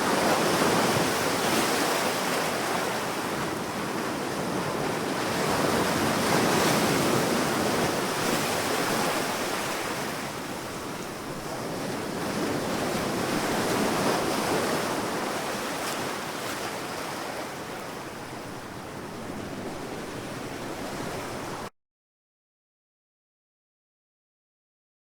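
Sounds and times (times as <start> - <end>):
waves washing onto sandy shore: 0.0 - 21.7.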